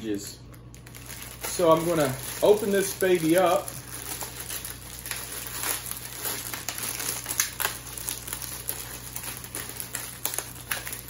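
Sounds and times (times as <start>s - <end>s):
snack bag crinkling: 0.5s - 11.0s.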